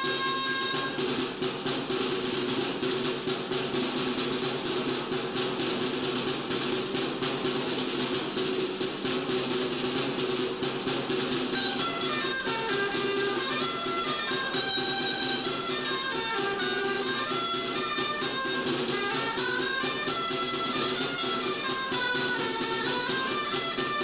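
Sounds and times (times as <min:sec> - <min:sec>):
shawms playing: 0:00.0 - 0:24.0
side drums rolling: 0:00.0 - 0:24.0.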